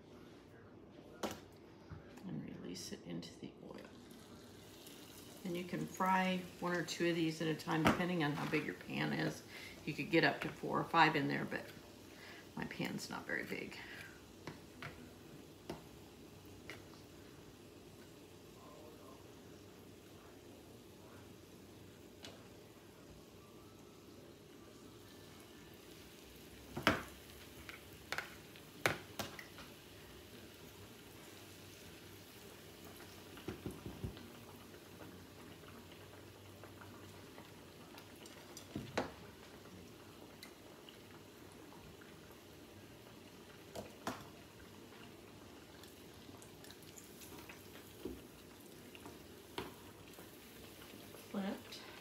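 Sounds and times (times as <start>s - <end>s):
oil bubbling: 3.5s - 52.0s.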